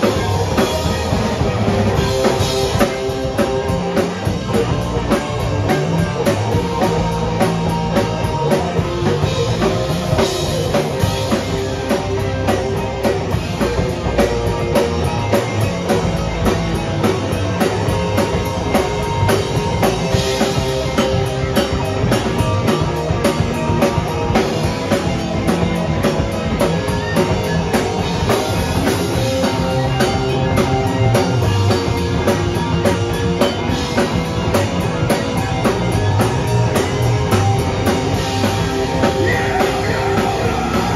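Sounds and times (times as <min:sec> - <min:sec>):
bass guitar: 0:00.0 - 0:40.9
drum kit beat: 0:00.0 - 0:40.9
electric guitars: 0:00.0 - 0:40.9.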